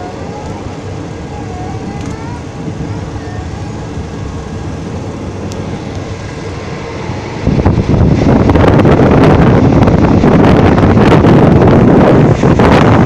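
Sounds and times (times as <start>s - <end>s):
train rumble: 0.0s - 13.0s
wind buffeting microphone: 0.0s - 13.0s.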